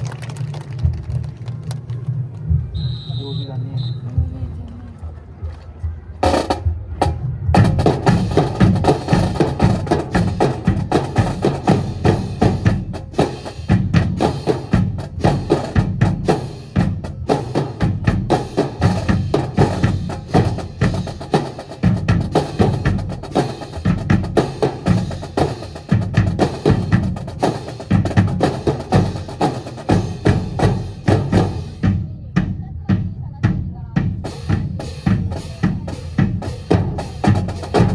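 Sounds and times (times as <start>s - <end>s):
marching drums: 0.0s - 37.9s.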